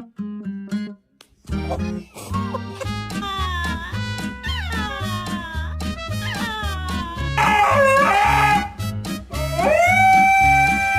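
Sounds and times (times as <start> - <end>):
background music with steady beat: 1.2 - 10.9.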